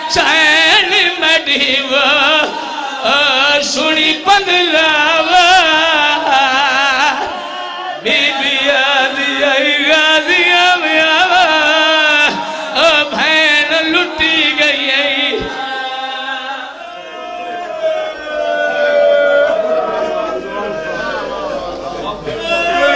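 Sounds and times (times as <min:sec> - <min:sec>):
man chanting mournful lament: 0:00.0 - 0:22.9.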